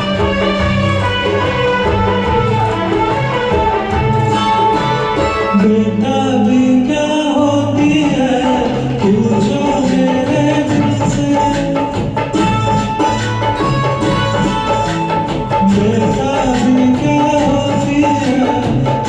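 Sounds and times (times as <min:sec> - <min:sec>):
hand percussion: 0:00.0 - 0:06.1, 0:07.8 - 0:19.0
melodic instrumental music: 0:00.0 - 0:06.4, 0:07.9 - 0:19.0.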